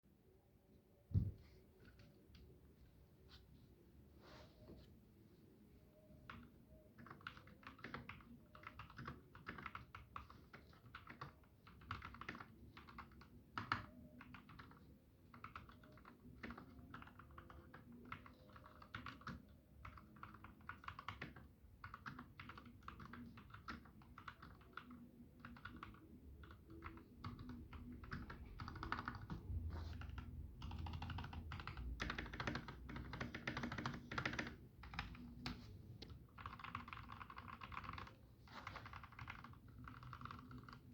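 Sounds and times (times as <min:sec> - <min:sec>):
mechanical keyboard typing: 0:06.3 - 0:40.9.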